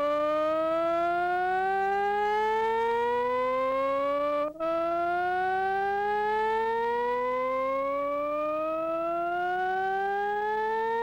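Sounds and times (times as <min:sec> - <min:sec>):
buzzy tone rising in pitch: 0:00.0 - 0:11.0.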